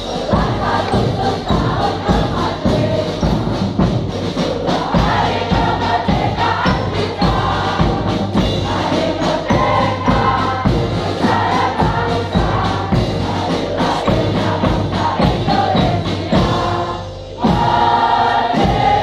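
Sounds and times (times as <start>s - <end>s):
bass drum beat: 0.0s - 19.0s
brass marching band: 0.0s - 19.0s
choir singing: 0.0s - 19.0s.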